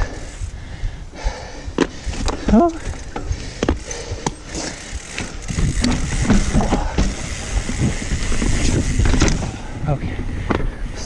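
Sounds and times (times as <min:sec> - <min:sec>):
mountain bike ticking: 0:00.0 - 0:11.0
bike rattling over ground: 0:01.6 - 0:11.0.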